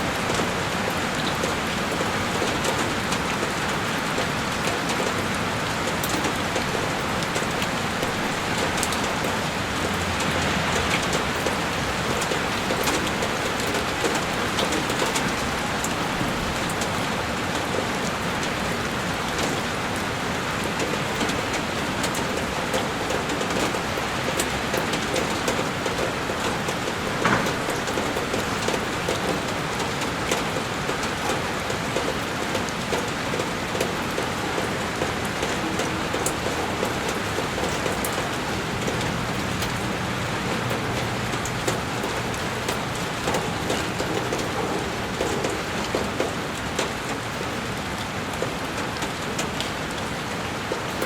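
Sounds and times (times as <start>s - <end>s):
heavy rain on a window: 0.0s - 51.0s.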